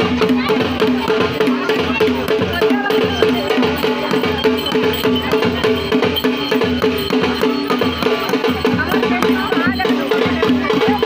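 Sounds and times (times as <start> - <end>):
drums beating fast rhythm: 0.0 - 11.0.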